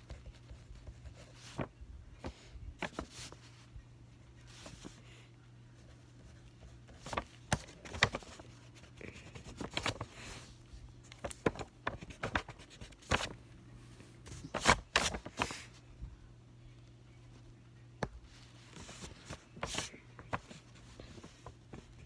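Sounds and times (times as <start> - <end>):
paper handling: 0.0 - 3.7, 4.4 - 5.2, 5.8 - 15.8, 18.0 - 22.0
faint low hum: 0.0 - 22.0.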